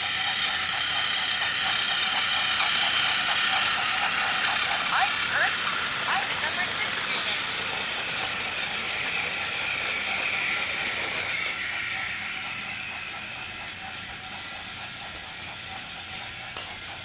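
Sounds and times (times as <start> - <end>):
toy train motors whirring: 0.0 - 17.0.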